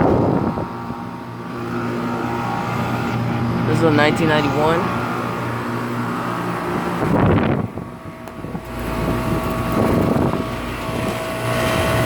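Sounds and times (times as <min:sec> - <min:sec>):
air conditioner units humming: 0:00.0 - 0:12.0.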